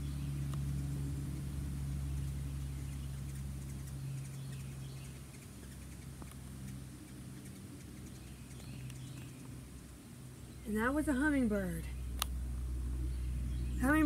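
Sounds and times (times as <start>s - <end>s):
hummingbird wings humming: 0.0s - 14.0s.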